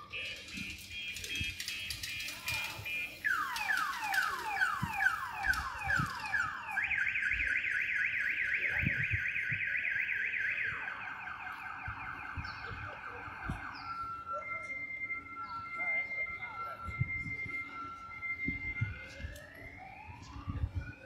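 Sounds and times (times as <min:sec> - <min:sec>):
car alarm: 0:00.0 - 0:21.0.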